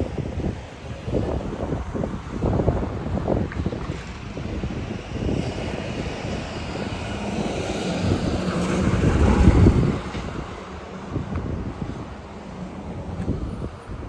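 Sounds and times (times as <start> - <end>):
wind noise on microphone: 0.0 - 14.0
bus driving past: 0.1 - 14.0.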